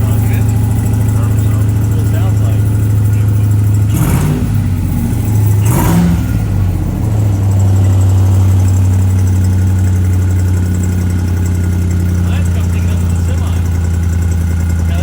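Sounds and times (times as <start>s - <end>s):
engine revving with air rush: 0.0s - 15.0s
turbocharged engine idling: 0.0s - 15.0s.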